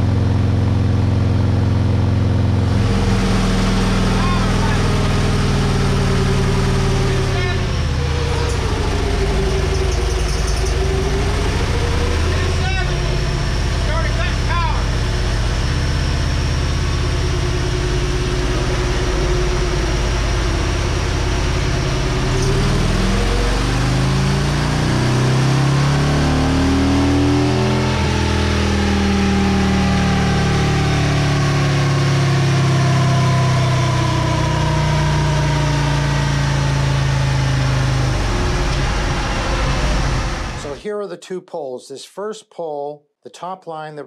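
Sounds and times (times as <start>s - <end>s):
motorcycle engine revving on dyno: 0.0s - 40.8s.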